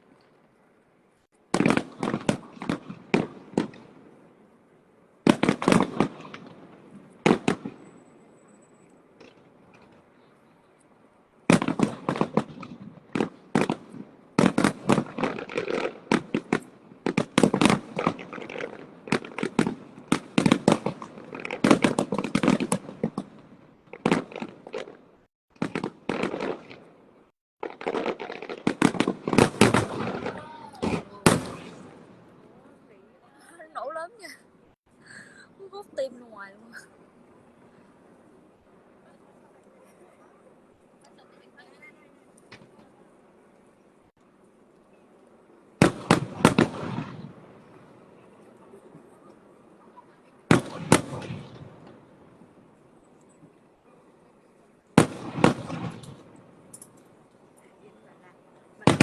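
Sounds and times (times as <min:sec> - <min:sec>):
fireworks bangs and crackles: 0:01.4 - 0:04.6, 0:05.2 - 0:34.4, 0:35.2 - 0:59.0.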